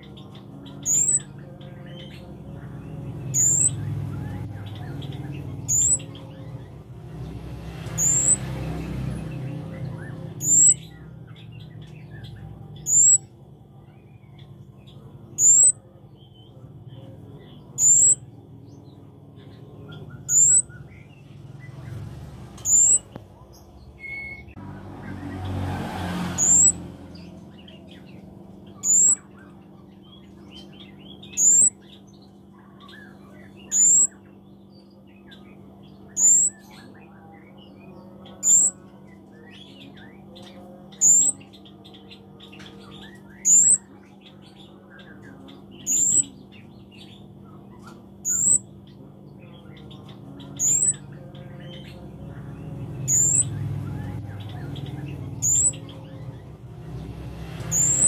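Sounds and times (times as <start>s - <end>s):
bird high chirp: 0.0s - 58.0s
soft bird twittering: 0.0s - 58.0s.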